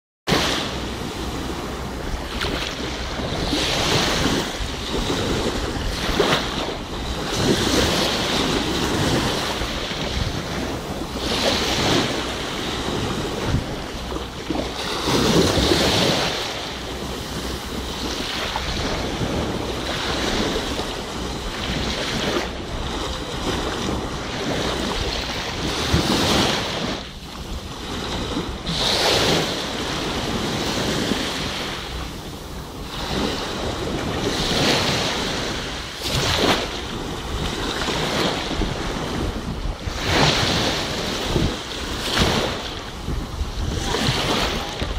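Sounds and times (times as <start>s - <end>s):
small waves washing ashore: 0.3s - 44.9s
wind rumbling on microphone: 0.3s - 44.9s.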